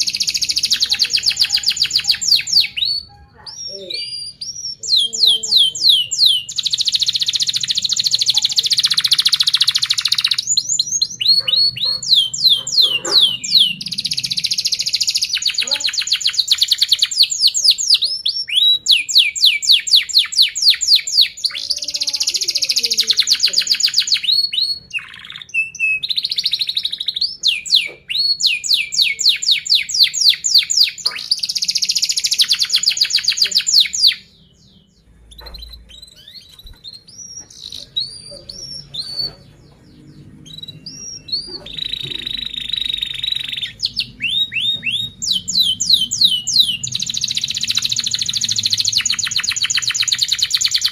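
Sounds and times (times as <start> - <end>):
canary chirps: 0.0 - 50.9.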